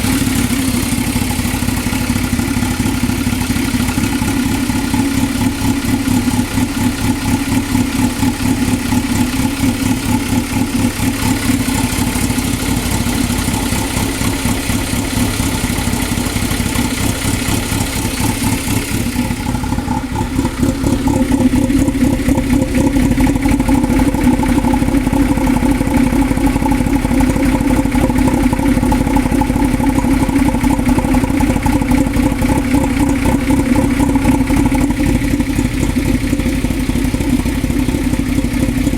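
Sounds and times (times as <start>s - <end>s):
car engine idling roughly: 0.0s - 38.9s.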